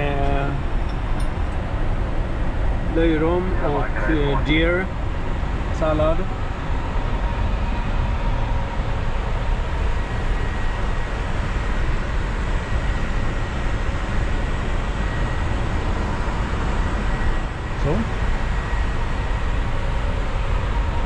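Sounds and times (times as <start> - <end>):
aircraft cabin rush and machinery: 0.0 - 21.0.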